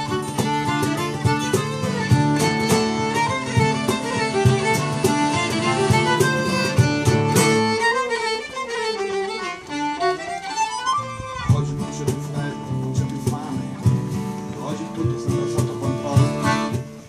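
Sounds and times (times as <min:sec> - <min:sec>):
accordion: 0:00.0 - 0:17.0
fiddle melody: 0:00.0 - 0:17.0
strummed acoustic guitars: 0:00.0 - 0:17.0.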